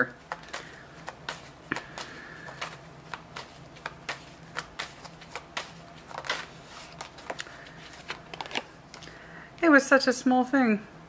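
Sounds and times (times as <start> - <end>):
cards being shuffled: 0.1 - 9.2
card rustle: 0.2 - 9.2.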